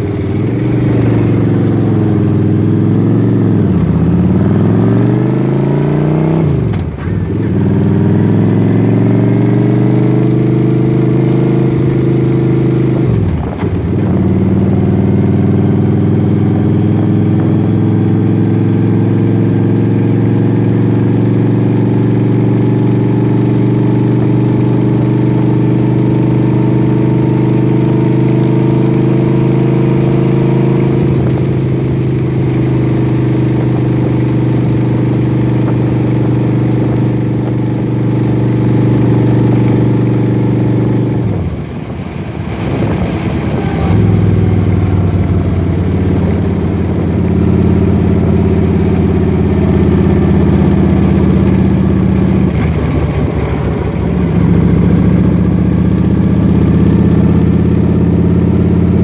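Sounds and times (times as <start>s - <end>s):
road noise: 0.0s - 59.0s
vehicle engine drone: 0.0s - 59.0s.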